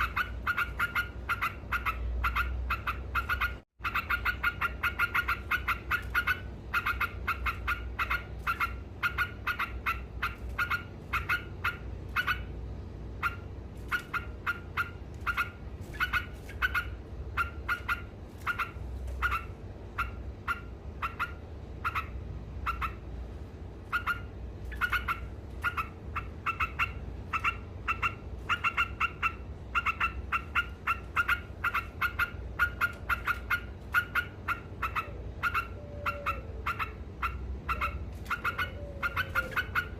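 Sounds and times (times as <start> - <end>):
bulbul chattering: 0.0 - 23.2, 23.8 - 39.9.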